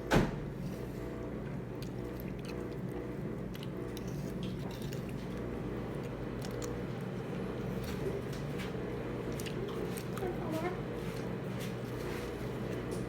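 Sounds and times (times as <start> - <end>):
low background hum: 0.0 - 13.0
chewing and eating: 0.5 - 13.0.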